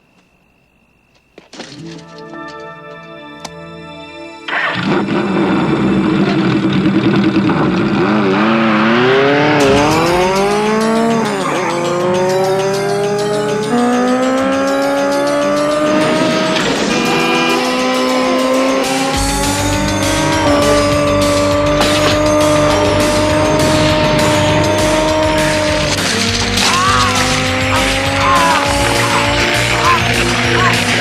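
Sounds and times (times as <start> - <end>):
vehicle engine revving hard: 4.6 - 31.0.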